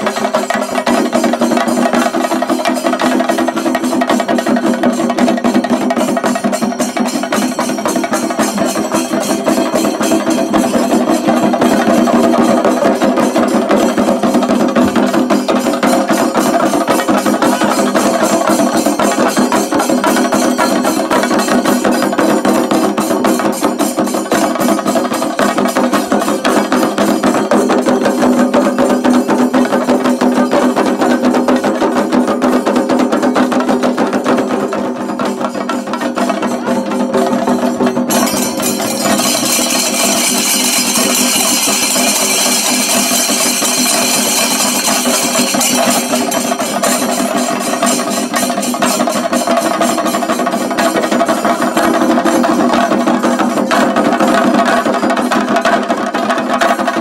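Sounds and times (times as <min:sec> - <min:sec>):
drums beaten fast with sticks: 0:00.0 - 0:57.0.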